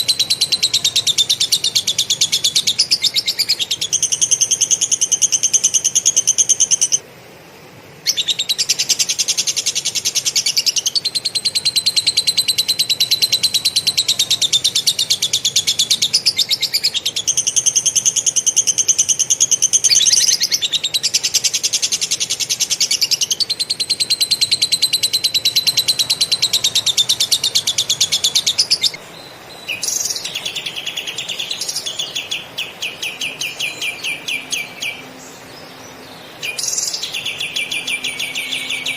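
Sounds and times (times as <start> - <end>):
songbird singing rapid trills: 0.0 - 38.9.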